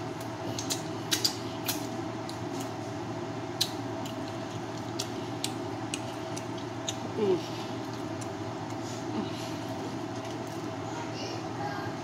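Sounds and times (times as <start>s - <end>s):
steady background hum: 0.0s - 12.0s
chewing with mouth clicks: 0.2s - 2.8s, 3.6s - 10.6s.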